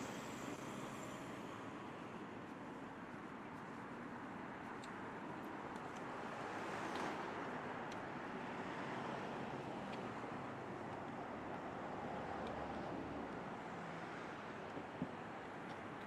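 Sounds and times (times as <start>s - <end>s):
passing traffic: 0.0s - 16.0s.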